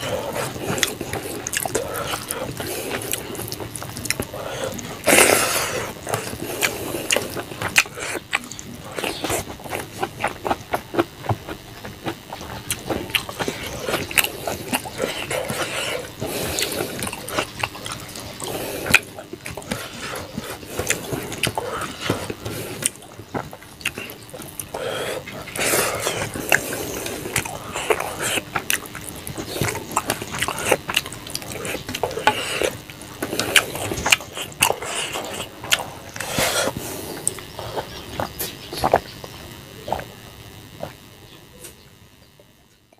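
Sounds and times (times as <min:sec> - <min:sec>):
wet chewing and lip smacks: 0:00.4 - 0:40.1.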